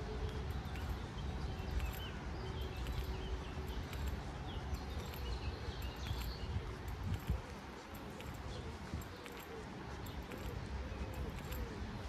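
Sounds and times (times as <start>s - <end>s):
footsteps on a path: 0.0s - 12.0s
songbirds chirping: 0.0s - 12.0s.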